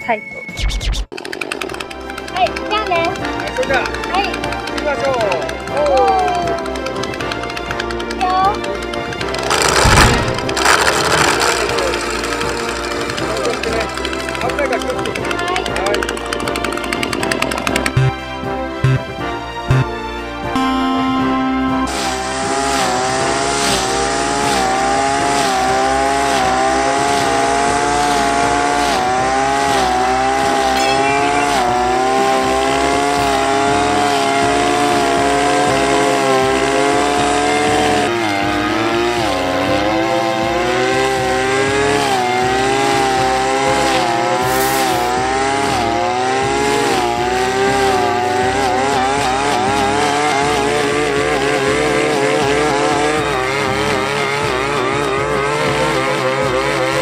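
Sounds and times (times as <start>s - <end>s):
blade cutting weeds and grass: 1.1s - 18.2s, 21.9s - 57.0s
brush cutter engine running: 1.2s - 19.0s, 21.7s - 57.0s.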